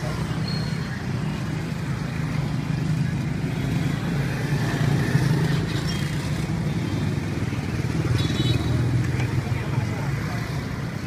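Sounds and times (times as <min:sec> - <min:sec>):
motor traffic hum: 0:00.0 - 0:11.0.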